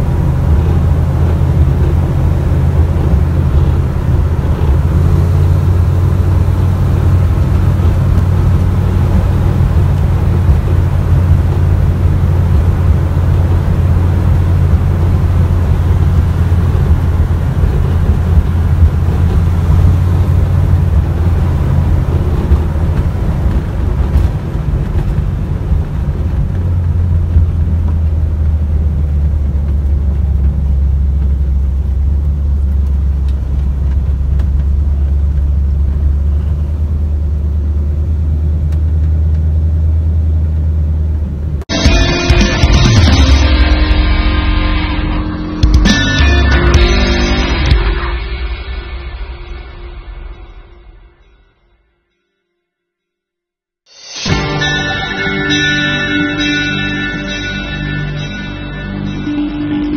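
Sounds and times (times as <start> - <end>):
car engine droning from inside cabin: 0.0 - 50.5
road noise: 0.0 - 51.7, 53.9 - 59.9.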